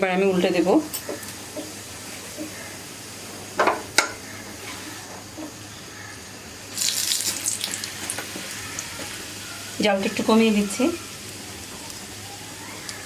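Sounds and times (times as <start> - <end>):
flatbread sizzling in hot oil: 0.0 - 13.0.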